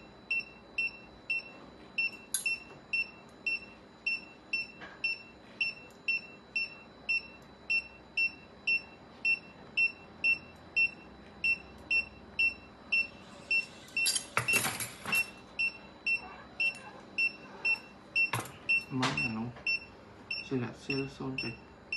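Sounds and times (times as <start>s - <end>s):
patient monitor beeping: 0.0s - 21.9s.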